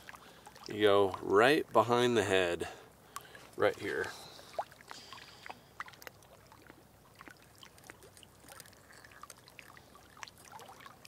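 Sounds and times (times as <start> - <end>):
water lapping at shore: 0.0 - 11.0.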